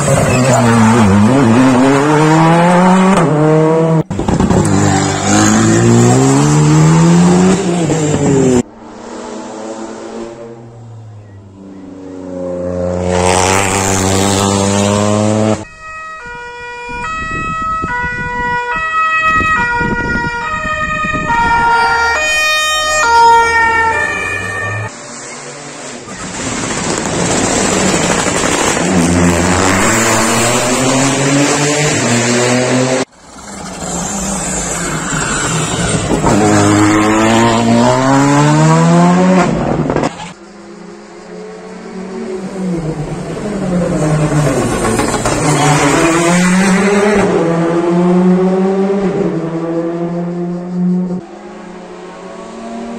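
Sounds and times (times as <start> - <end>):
rally car engines accelerating: 0.0 - 15.6, 24.7 - 52.9.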